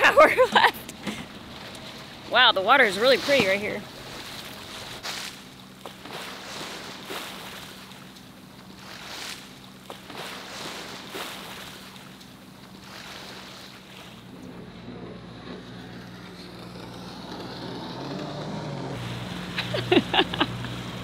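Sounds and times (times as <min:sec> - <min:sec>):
steady low hum: 0:00.0 - 0:21.0
water noise: 0:00.0 - 0:21.0.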